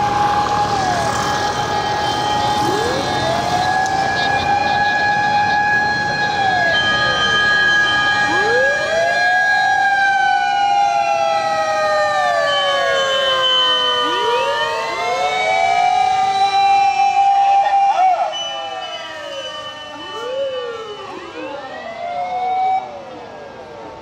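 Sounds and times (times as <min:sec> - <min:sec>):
fire truck sirens wailing: 0:00.0 - 0:24.0.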